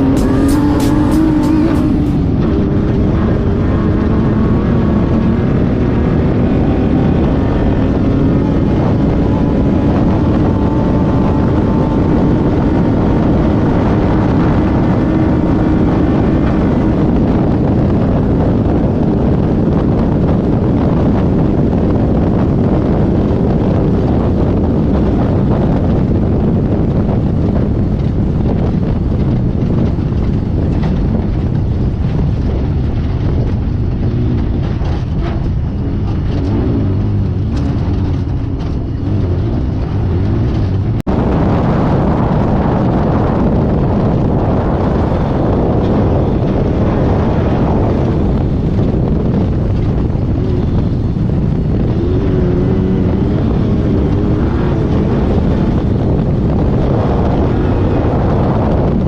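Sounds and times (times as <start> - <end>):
car rumbling over rough ground: 0.0 - 59.0
race car engine: 0.0 - 59.0
wind on microphone: 0.0 - 59.0.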